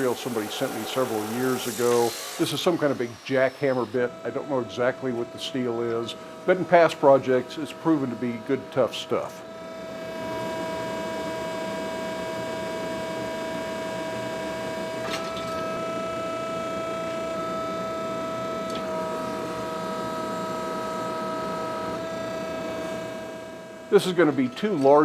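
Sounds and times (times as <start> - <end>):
machine humming with high whine: 0.0 - 25.0.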